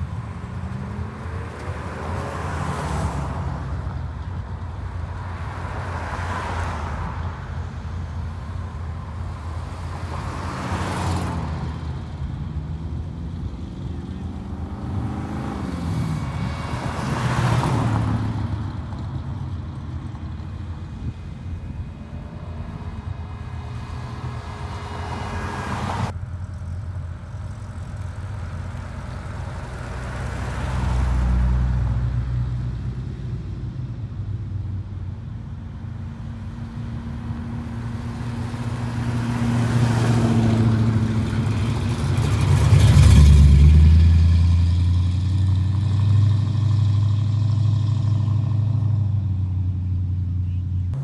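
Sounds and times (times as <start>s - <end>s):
cars driving past: 0.0s - 51.0s.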